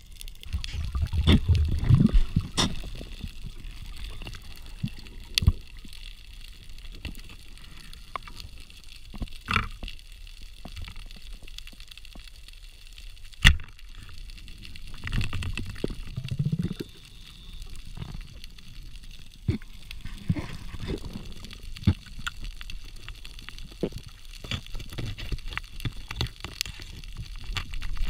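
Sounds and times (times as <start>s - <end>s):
water gurgling: 0.0s - 12.3s, 13.4s - 28.0s
muffled underwater hiss: 0.0s - 28.0s.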